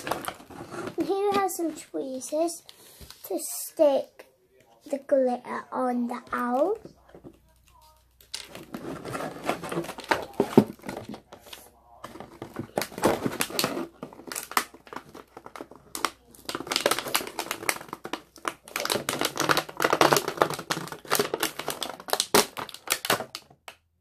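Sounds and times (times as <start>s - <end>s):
plastic packaging crinkling: 0.0s - 2.2s, 6.4s - 23.6s.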